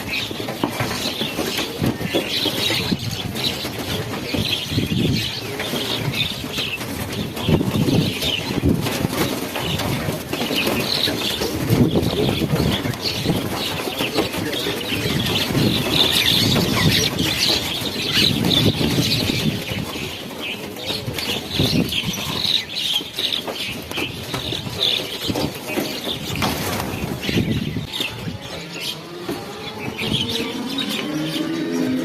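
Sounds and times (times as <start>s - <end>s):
birds flapping wings: 0.0s - 32.0s.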